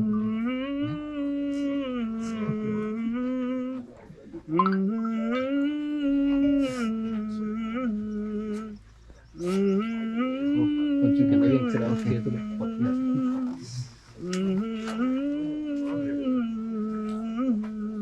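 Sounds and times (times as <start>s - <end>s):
person humming a slow melody: 0.0s - 8.8s, 9.4s - 18.0s.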